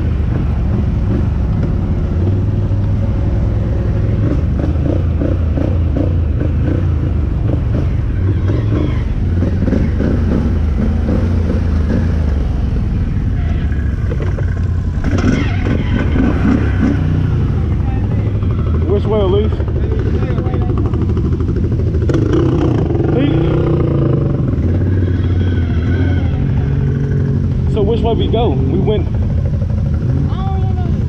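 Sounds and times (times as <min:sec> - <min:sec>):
engine droning steadily: 0:00.0 - 0:31.0.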